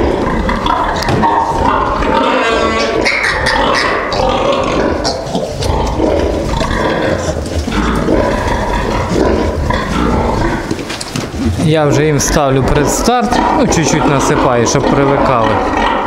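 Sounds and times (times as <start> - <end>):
pigs squealing and grunting: 0.0 - 16.0.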